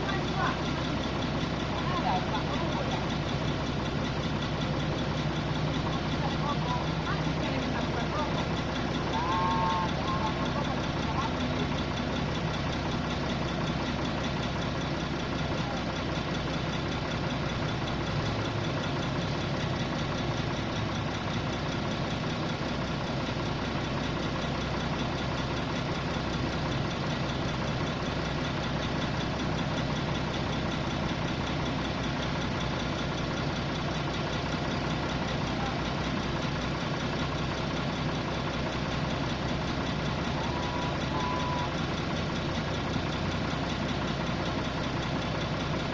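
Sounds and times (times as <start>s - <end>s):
air compressor engine idling: 0.0s - 45.9s.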